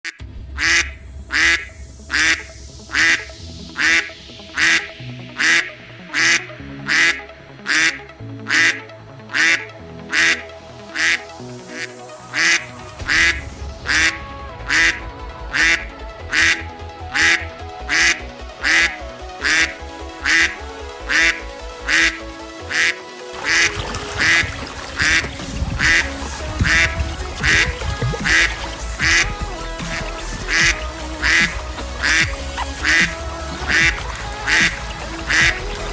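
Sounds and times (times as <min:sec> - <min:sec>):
duck quacks: 0:00.0 - 0:03.2, 0:03.8 - 0:10.4, 0:11.0 - 0:35.6
background music with bass: 0:00.1 - 0:35.9.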